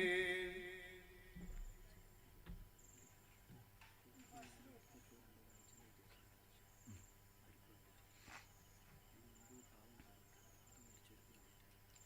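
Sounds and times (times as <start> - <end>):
insect chirping: 0.1 - 3.5, 4.1 - 12.0.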